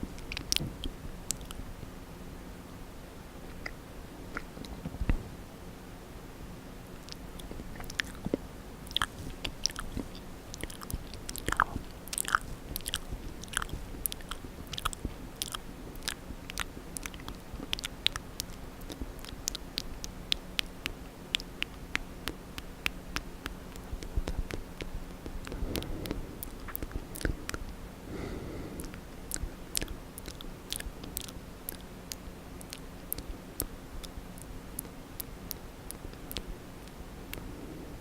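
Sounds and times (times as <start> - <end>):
wet tongue and lip clicks: 0.2 - 1.6, 3.5 - 5.2, 7.0 - 27.8, 28.8 - 37.5.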